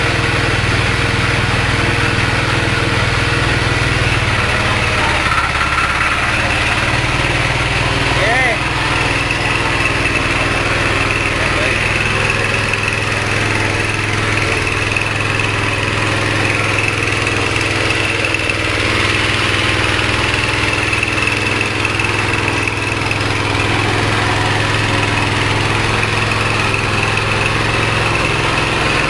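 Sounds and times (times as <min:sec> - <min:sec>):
small petrol engine running: 0:00.0 - 0:29.0.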